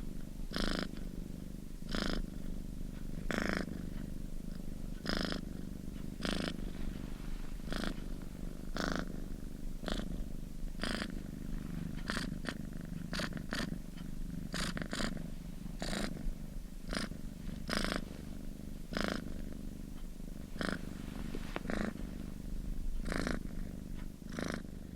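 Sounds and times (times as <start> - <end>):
cat purring: 0.0 - 24.9.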